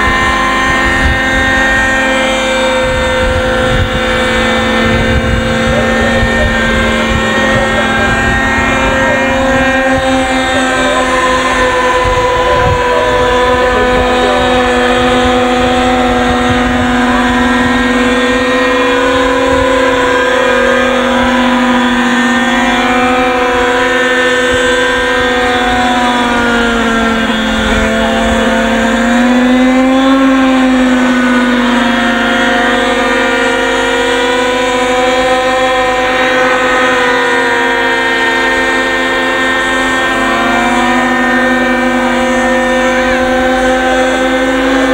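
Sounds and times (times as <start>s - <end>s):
model helicopter engine running: 0.0s - 44.9s.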